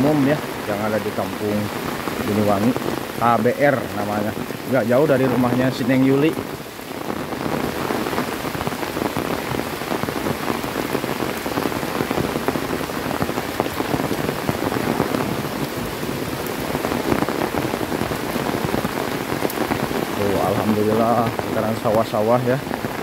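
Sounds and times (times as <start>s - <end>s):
heavy rain on foliage: 0.0s - 23.0s.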